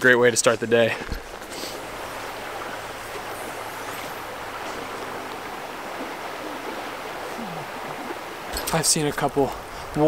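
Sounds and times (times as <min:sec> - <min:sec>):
creek water rushing: 0:00.2 - 0:10.0.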